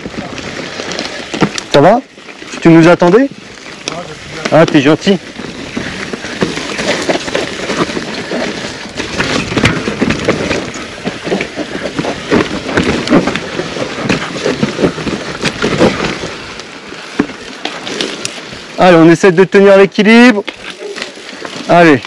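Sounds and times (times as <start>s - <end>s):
bike rattling and knocking: 0.0s - 22.0s
bike tyres crunching on dirt: 0.0s - 22.0s.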